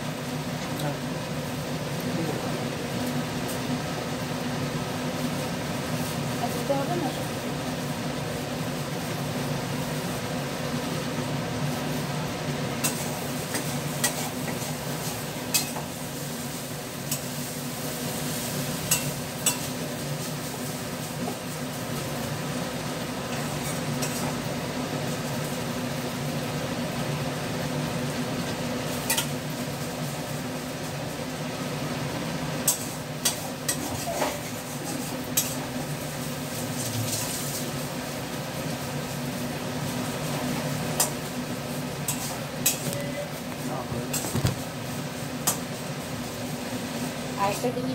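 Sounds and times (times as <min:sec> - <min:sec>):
food frying sizzle: 0:00.0 - 0:47.9.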